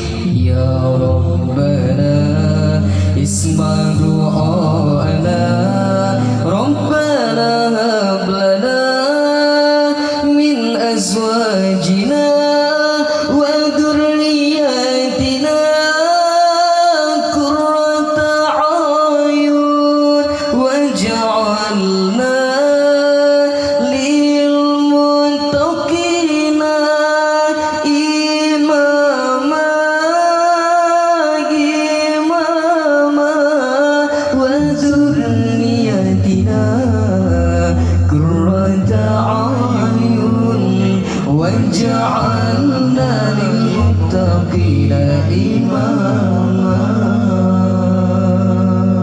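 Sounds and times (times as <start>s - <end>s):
lower pitched vocal part: 0.0s - 49.0s
ornamented vocal singing: 0.0s - 49.0s.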